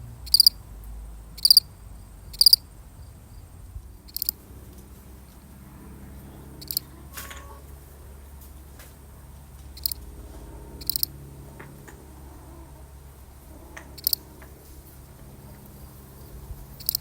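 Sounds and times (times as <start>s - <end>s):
cricket chirping: 0.0s - 17.0s
low background hum: 0.0s - 17.0s.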